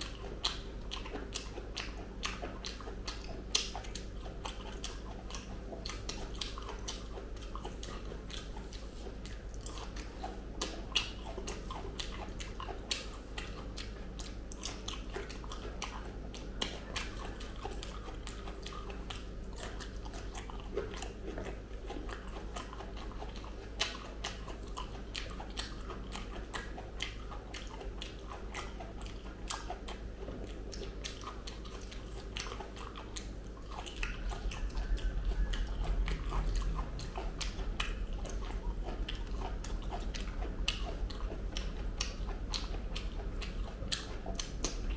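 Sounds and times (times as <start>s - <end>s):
mouth clicks while chewing: 0.0s - 44.9s.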